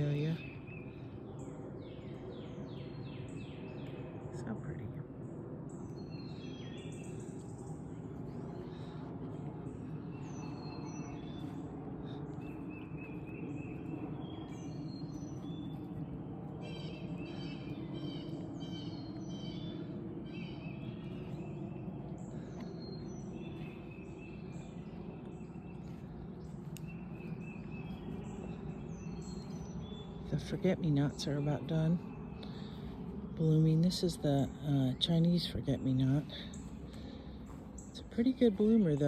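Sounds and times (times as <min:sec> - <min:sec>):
low background rumble: 0:00.0 - 0:39.0
songbirds singing and chirping: 0:00.0 - 0:39.0.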